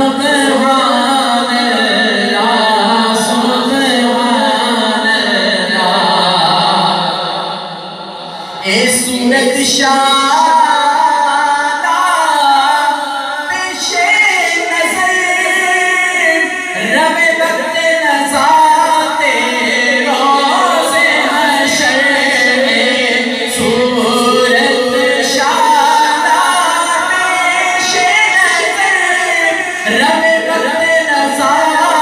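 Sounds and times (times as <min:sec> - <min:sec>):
man singing unaccompanied: 0:00.0 - 0:07.1, 0:08.6 - 0:32.0.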